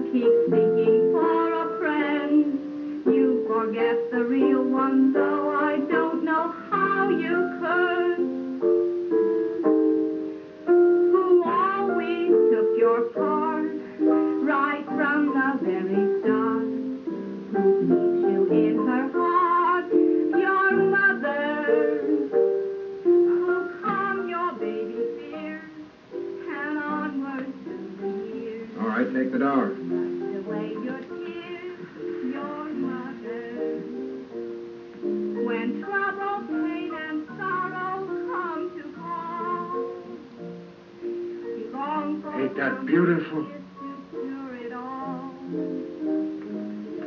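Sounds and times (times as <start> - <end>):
woman singing a ballad: 0.0 - 8.6, 10.7 - 17.0, 17.9 - 22.5, 23.1 - 29.1, 30.1 - 34.1, 35.3 - 40.6, 41.4 - 46.1
instrumental accompaniment: 0.0 - 47.0.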